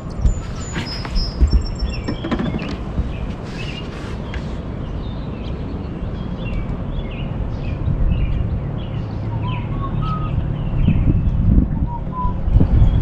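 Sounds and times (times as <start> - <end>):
low rumbling noise: 0.0 - 13.0
small birds chirping: 0.0 - 13.0.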